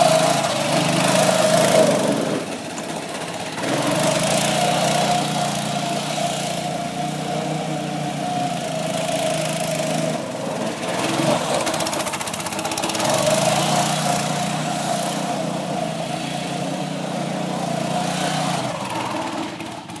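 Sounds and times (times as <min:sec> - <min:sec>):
small petrol engine running: 0:00.0 - 0:20.0.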